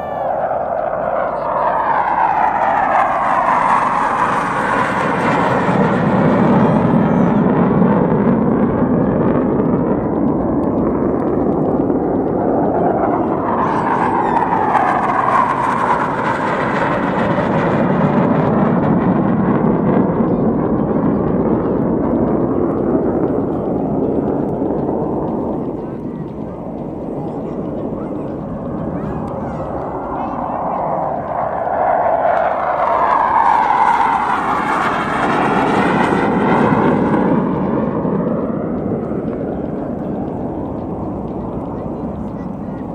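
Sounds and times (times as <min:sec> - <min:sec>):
jet flying past: 0:00.0 - 0:42.9.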